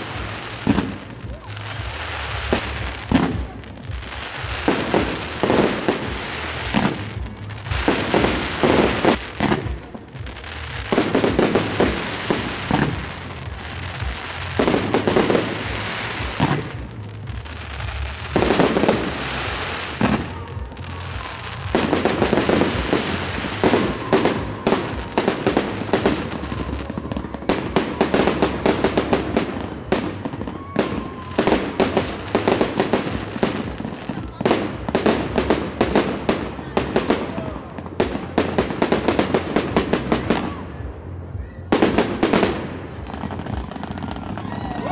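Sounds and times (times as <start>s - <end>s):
fireworks bursting with loud bangs: 0.0s - 44.9s.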